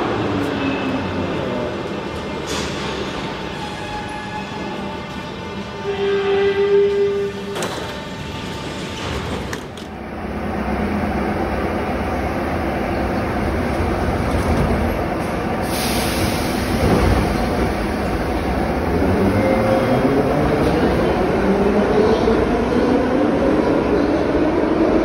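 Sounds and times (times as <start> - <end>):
metro train rumble and hiss: 0.0 - 25.0.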